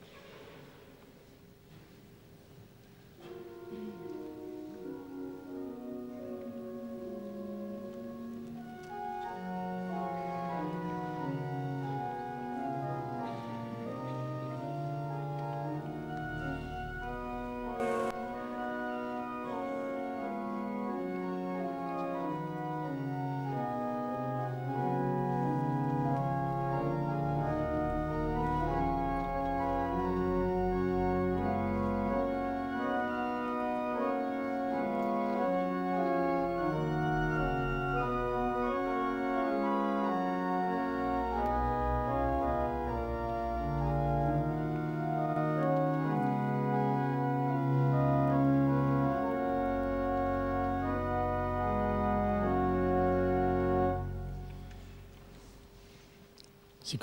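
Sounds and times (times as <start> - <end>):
church organ chords: 3.2 - 56.1
deep organ bass notes: 8.6 - 54.7.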